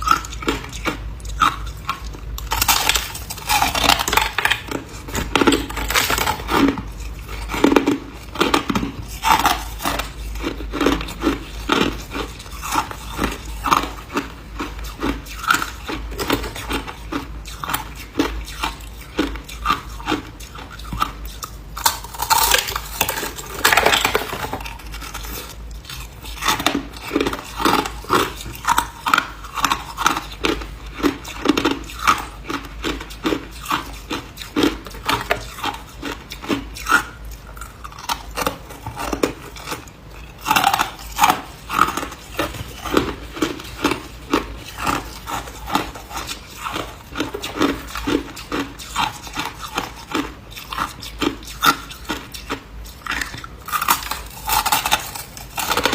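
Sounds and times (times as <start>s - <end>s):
person crunching ice: 2.4s - 55.9s.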